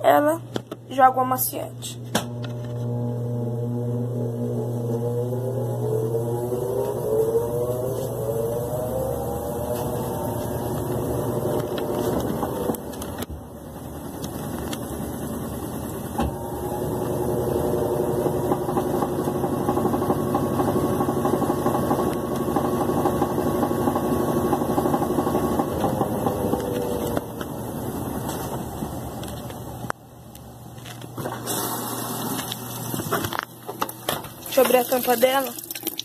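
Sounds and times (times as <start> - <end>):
washing machine motor whine: 1.0 - 36.0.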